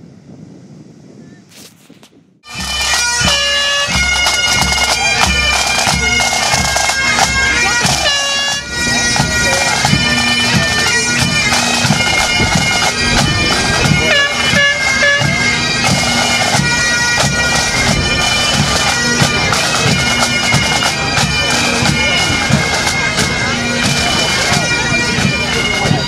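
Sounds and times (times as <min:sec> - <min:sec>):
bagpipes playing a tune: 0:02.4 - 0:26.0.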